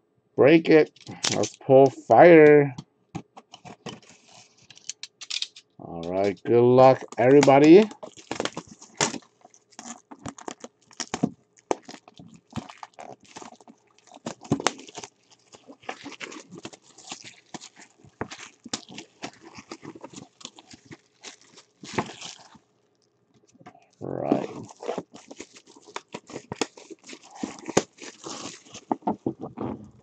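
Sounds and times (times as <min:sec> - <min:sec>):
plastic wrapping crinkling: 0:03.4 - 0:30.0.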